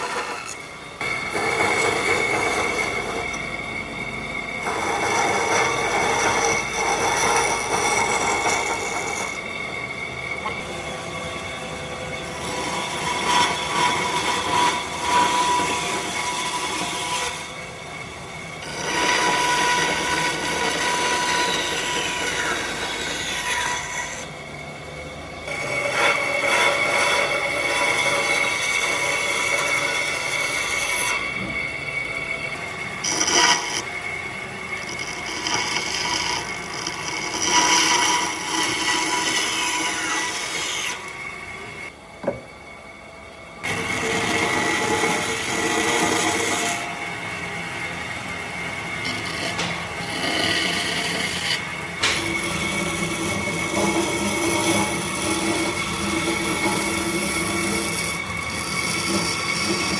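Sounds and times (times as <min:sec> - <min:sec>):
power tool whining on wood: 0:00.0 - 0:42.5, 0:43.6 - 0:59.9.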